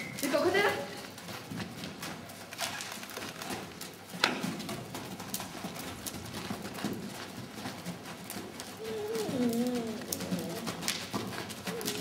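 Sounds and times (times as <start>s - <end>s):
hoofbeats on soft ground: 0.0s - 12.0s.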